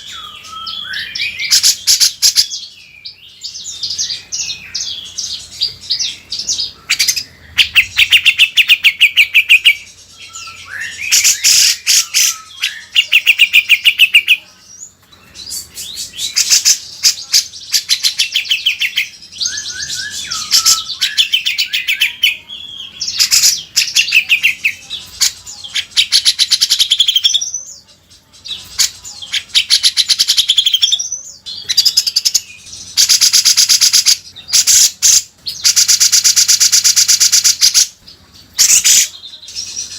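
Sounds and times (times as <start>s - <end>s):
songbird trilling and whistling: 0.0s - 39.9s.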